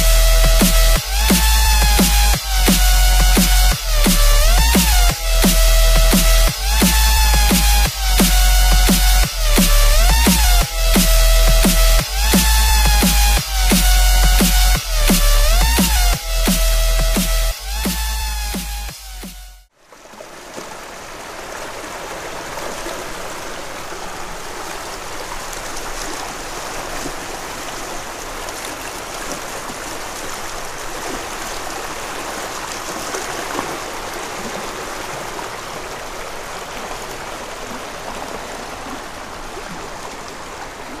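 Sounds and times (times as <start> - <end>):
stream water running: 0.0 - 17.9, 18.9 - 41.0.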